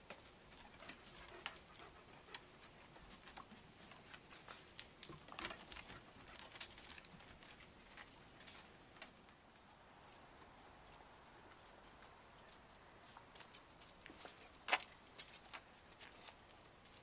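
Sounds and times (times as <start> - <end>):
light clicks and jingles: 0.0 - 17.0.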